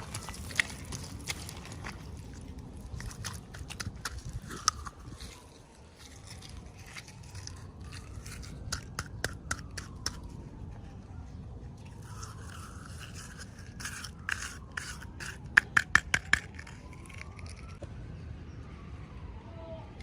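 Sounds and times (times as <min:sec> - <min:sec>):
packaging scraping and crinkling: 0:00.0 - 0:10.9, 0:11.8 - 0:17.8.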